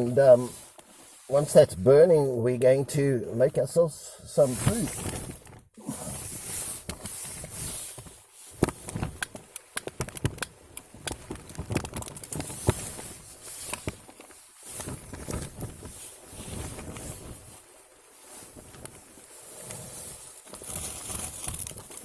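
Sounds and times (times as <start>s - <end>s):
wood fire crackling: 4.4s - 22.0s.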